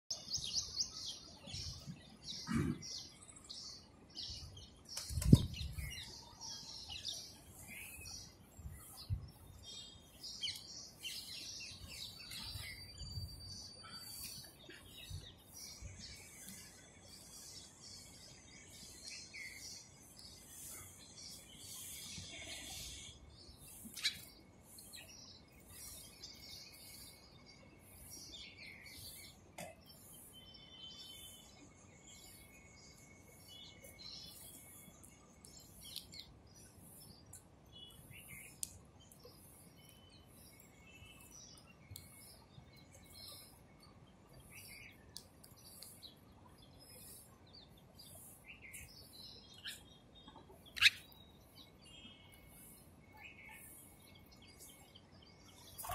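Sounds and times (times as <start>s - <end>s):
small songbirds chirping: 0.0s - 55.9s.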